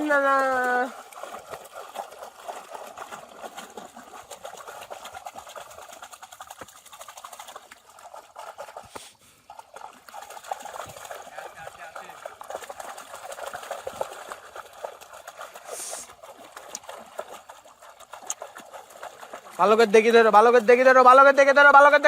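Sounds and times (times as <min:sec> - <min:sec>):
hands splashing shallow water: 0:00.0 - 0:22.0.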